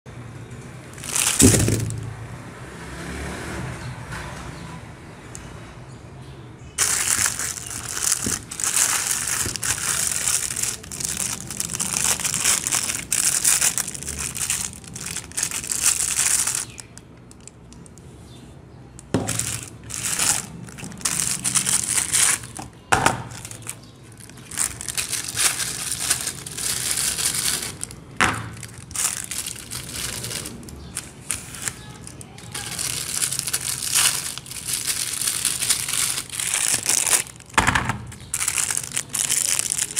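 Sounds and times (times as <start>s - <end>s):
plastic wrappers crumpling: 0.9s - 2.1s, 6.8s - 18.0s, 19.0s - 39.9s.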